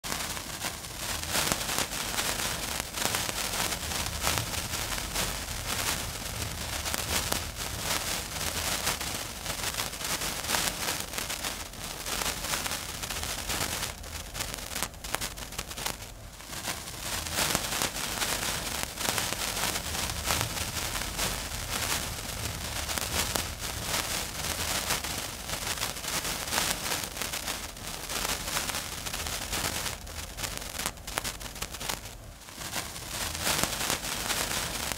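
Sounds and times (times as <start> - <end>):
fuse burning with sizzling crackle: 0.0 - 34.9.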